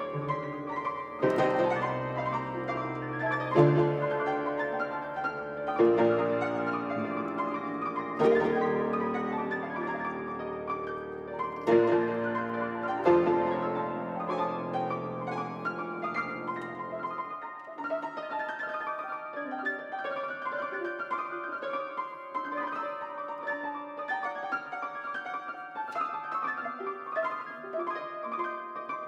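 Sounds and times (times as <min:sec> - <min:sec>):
solo piano: 0:00.0 - 0:29.0.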